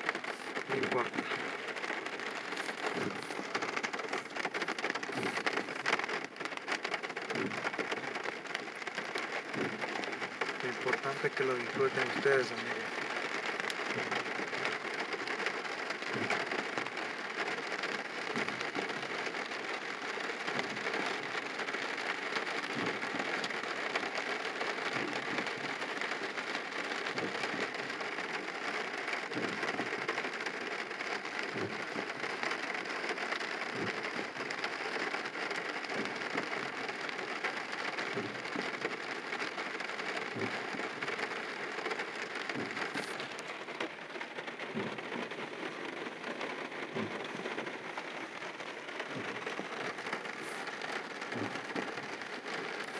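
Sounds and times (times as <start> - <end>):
heavy raindrops knocking: 0.0 - 52.9
rain on car roof: 0.0 - 52.9.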